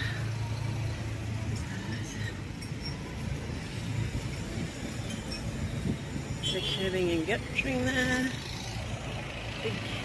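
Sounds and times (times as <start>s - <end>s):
street noise: 0.0s - 10.0s
vehicle engine humming: 0.0s - 10.0s.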